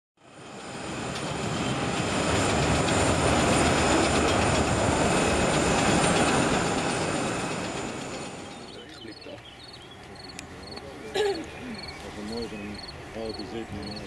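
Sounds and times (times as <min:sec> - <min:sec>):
jet engines at takeoff: 0:00.2 - 0:14.0.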